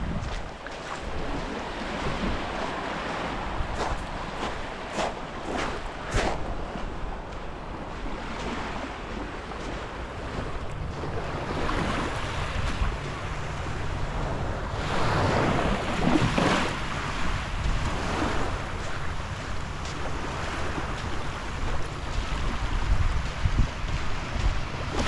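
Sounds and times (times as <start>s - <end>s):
surf washing onto shore: 0.0s - 25.0s
wind rumbling on microphone: 0.0s - 25.0s.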